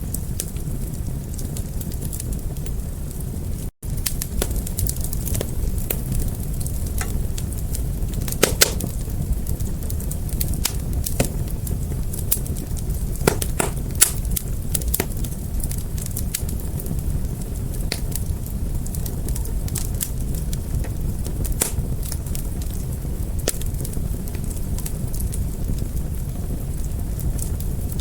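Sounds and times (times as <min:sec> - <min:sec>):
fire popping and snapping: 0:00.0 - 0:28.0
low rumble of flames: 0:00.0 - 0:28.0.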